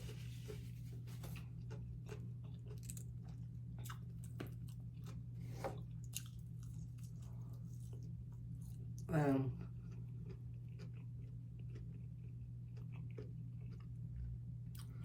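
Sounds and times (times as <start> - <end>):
person chewing crunchy food: 0.0 - 9.0, 9.6 - 15.0
low steady hum: 0.0 - 15.0.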